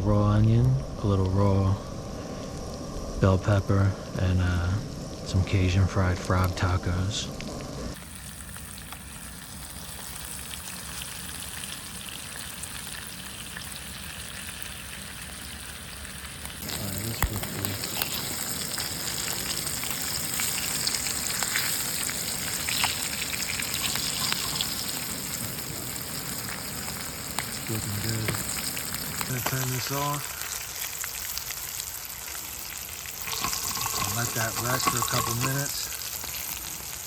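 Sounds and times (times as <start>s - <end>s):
frying in hot oil: 0.6s - 37.0s
oil popping and crackling: 5.1s - 37.0s.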